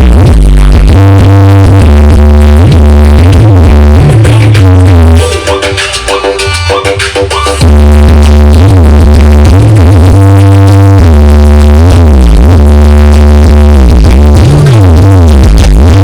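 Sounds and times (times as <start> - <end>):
loud electronic dance music: 0.0 - 16.0.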